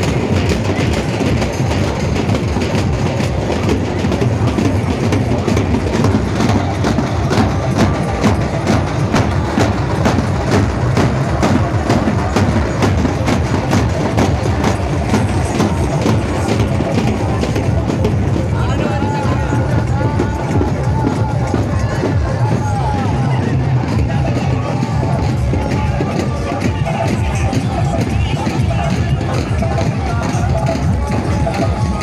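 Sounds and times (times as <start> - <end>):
outdoor crowd noise: 0.0 - 32.0
percussion beating fast rhythm: 0.0 - 32.0.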